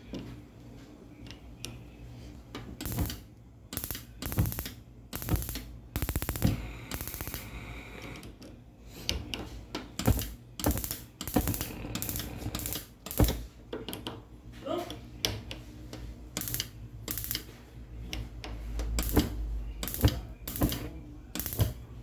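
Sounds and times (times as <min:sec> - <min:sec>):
gas stove igniters clicking: 0:02.6 - 0:14.2, 0:15.2 - 0:22.0.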